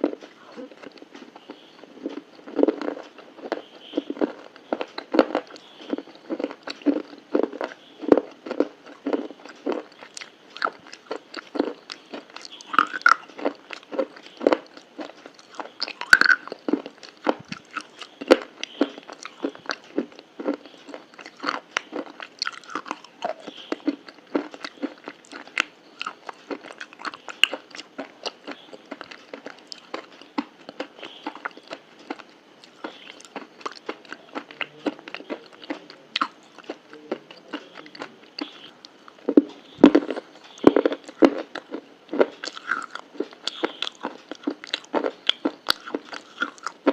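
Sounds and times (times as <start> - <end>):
chewing crunchy food: 0.0 - 46.9.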